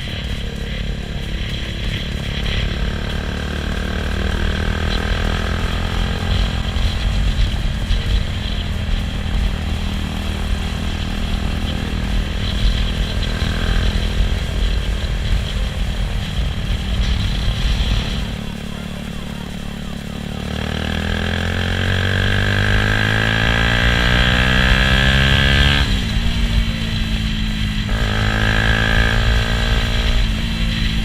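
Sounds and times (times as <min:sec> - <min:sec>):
motorcycle engine running: 0:00.0 - 0:31.0
wind rumble on microphone: 0:00.0 - 0:31.0.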